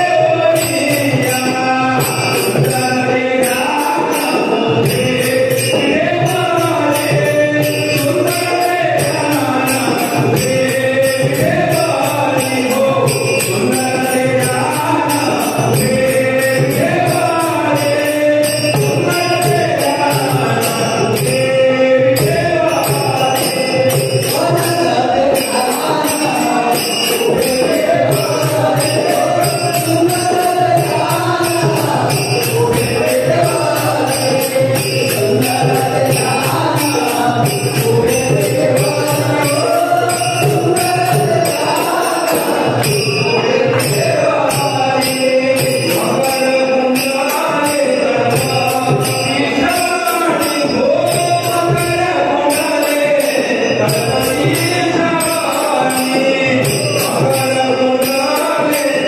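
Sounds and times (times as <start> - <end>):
percussion beat: 0.0 - 59.0
person singing devotional song: 0.0 - 59.0.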